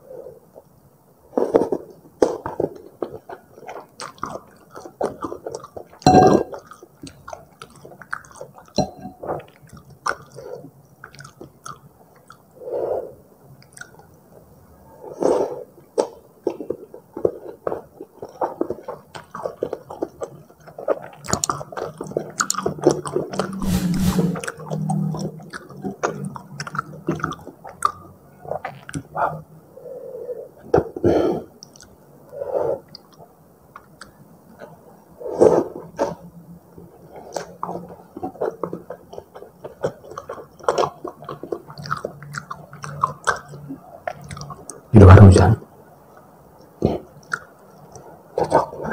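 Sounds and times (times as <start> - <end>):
close chewing with mouth smacks: 1.3 - 23.6, 24.4 - 29.5, 30.6 - 44.9, 46.0 - 48.9.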